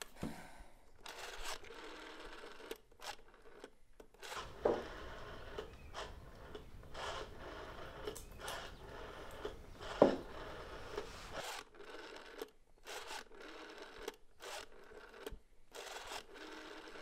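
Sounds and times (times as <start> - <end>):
rotary phone dial whirring: 1.0 - 17.0.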